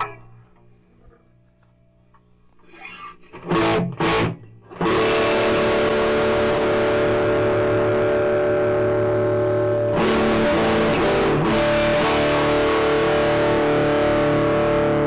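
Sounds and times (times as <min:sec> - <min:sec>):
faint amplifier hum: 0:00.0 - 0:15.0
electric guitar chords: 0:02.6 - 0:15.0.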